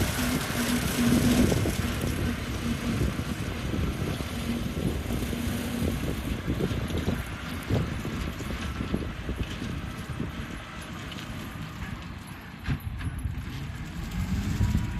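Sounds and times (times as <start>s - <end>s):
lawn mower running: 0.0s - 14.9s.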